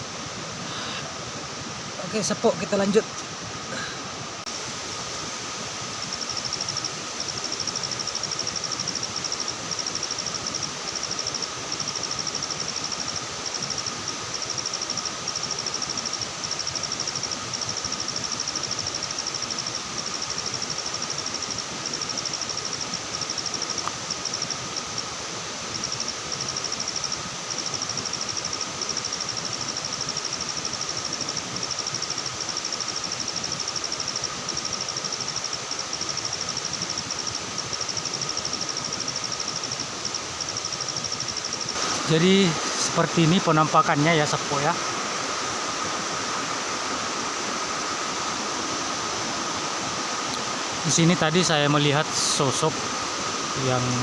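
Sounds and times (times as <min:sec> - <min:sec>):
even hiss: 0:00.0 - 0:54.0
insects trilling: 0:00.0 - 0:54.0
low insect drone: 0:00.0 - 0:54.0.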